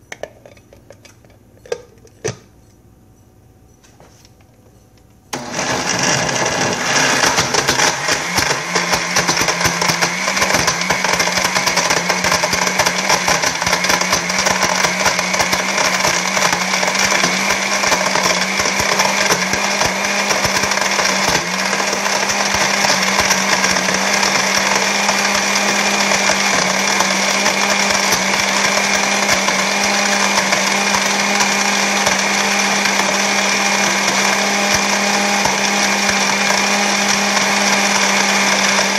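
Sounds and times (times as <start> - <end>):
blender motor running: 5.3 - 38.9.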